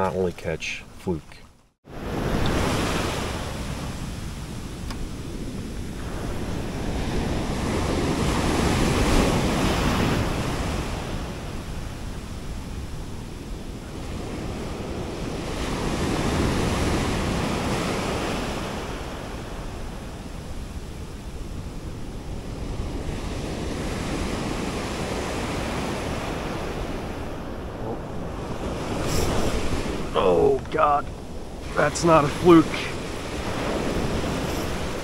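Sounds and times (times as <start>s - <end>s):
ocean surf on beach: 1.9s - 35.0s
wind buffeting microphone: 1.9s - 35.0s.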